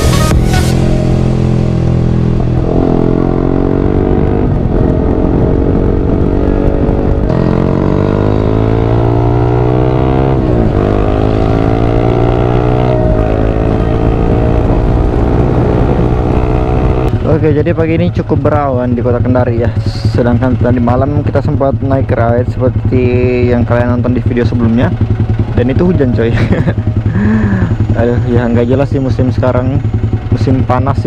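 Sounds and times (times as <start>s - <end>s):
motorcycle engine accelerating: 0.0s - 31.0s
wind and road noise: 0.0s - 31.0s.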